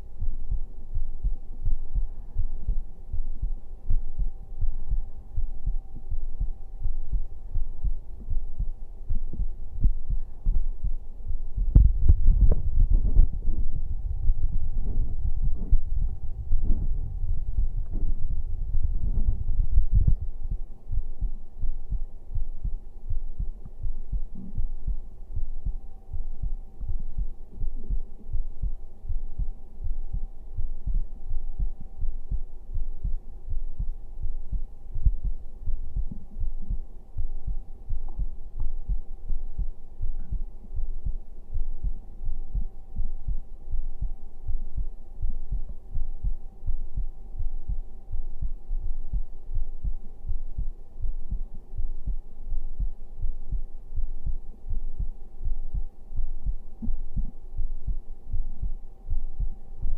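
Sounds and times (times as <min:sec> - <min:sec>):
faint steady hum: 0:00.0 - 0:59.9
heartbeat thumps: 0:00.0 - 0:59.9.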